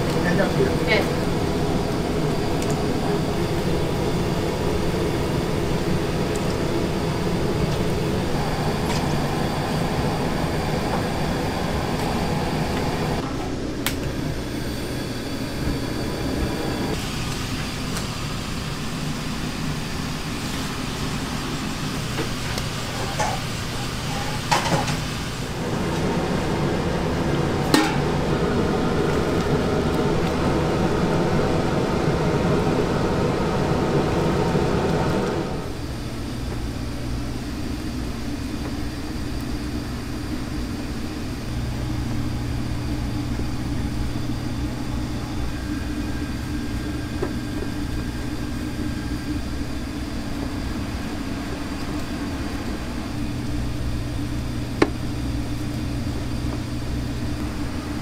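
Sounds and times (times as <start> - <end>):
machinery hum and hiss: 0.0 - 58.0.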